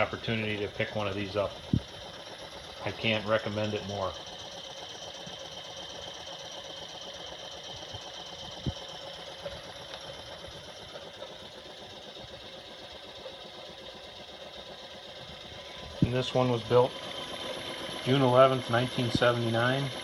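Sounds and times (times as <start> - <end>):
toy steam engine running: 0.0 - 20.0.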